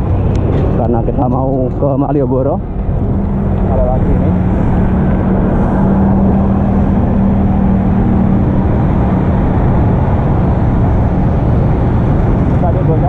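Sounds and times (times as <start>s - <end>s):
passing road traffic: 0.0s - 13.0s
steady hum: 0.0s - 13.0s
wind rumble on microphone: 0.0s - 13.0s.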